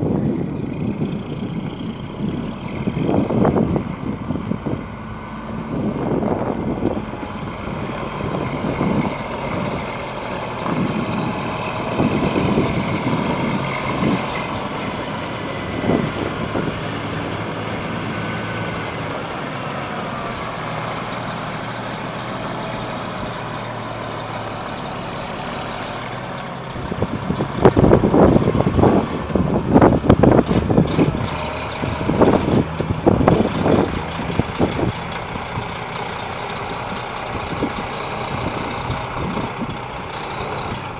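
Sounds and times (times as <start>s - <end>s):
diesel truck engine: 0.0s - 40.9s.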